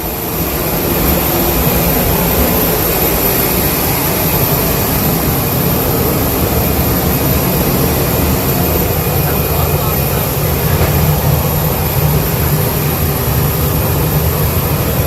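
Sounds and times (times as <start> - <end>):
high engine whine: 0.0 - 15.0
jet engines rumbling: 0.0 - 15.0.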